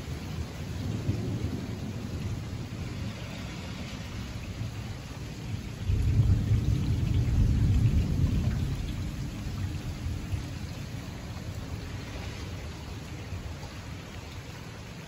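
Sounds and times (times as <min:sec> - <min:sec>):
thunder rumbling: 0:00.0 - 0:14.3
rain falling: 0:00.0 - 0:15.0.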